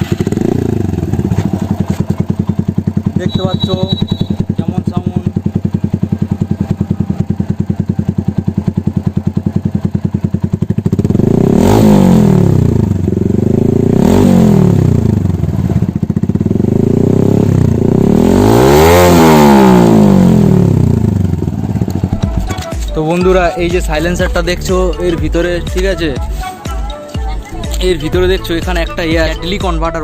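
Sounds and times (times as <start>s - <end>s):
motorcycle engine idling: 0.0s - 30.0s
motorcycle engine revving: 0.0s - 30.0s.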